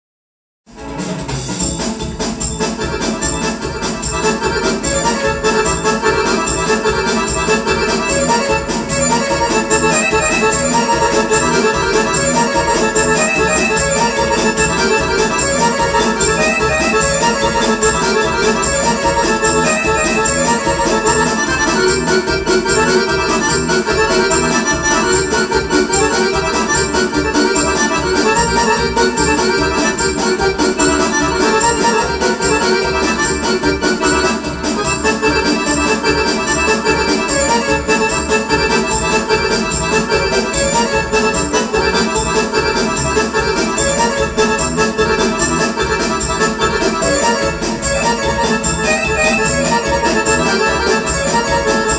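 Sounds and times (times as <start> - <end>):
electronic keyboard melody: 0.8 - 51.9
rhythmic backing beat: 0.8 - 51.9.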